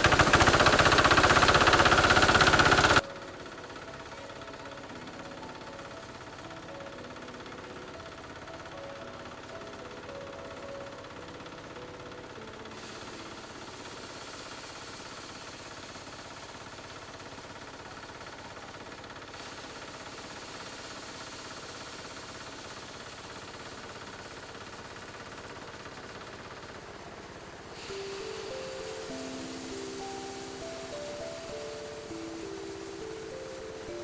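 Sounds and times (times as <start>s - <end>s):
hiss: 0.0s - 10.2s, 11.8s - 34.0s
small engine running: 0.0s - 34.0s.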